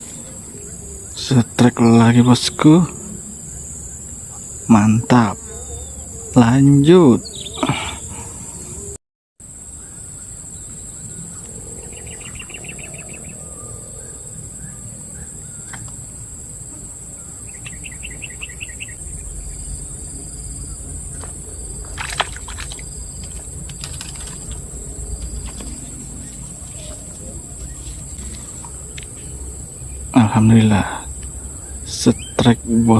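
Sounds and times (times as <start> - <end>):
bird trilling: 0.0 - 9.0, 9.8 - 15.9, 17.2 - 32.9
high-pitched insect drone: 0.0 - 32.9.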